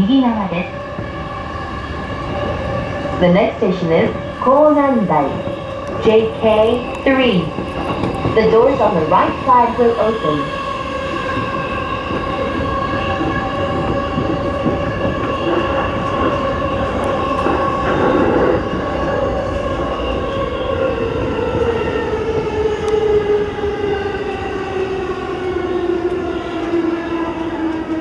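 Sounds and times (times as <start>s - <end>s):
electric train rumble and whine: 0.0s - 28.0s.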